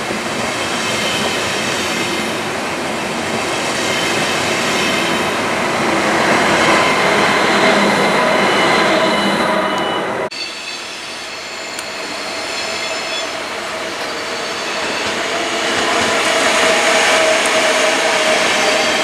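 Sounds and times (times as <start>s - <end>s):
approaching train rolling with whines: 0.0s - 19.0s
high-speed train passing: 0.0s - 19.0s.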